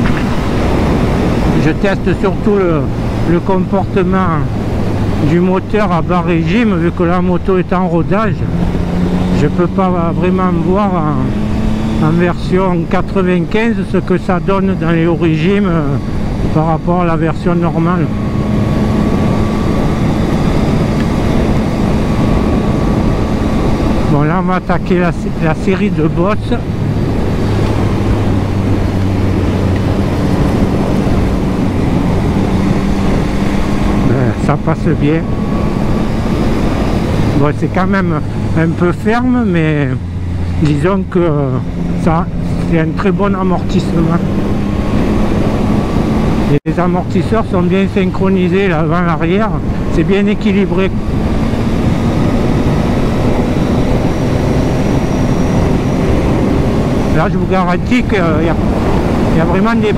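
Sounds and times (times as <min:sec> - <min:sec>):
motorcycle engine at low revs: 0:00.0 - 0:59.9
wind rush on microphone: 0:00.0 - 0:59.9.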